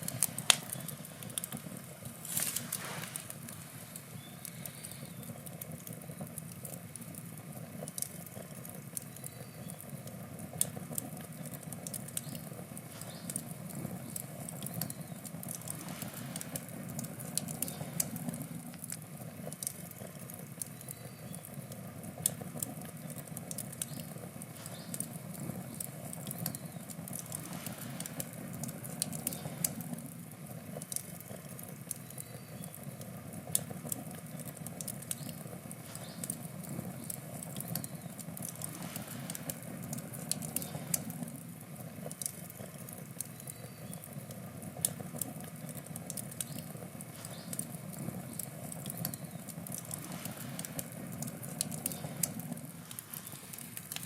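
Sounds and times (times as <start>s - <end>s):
campfire flame rushing: 0.0s - 54.0s
wood crackling and popping: 0.0s - 54.0s.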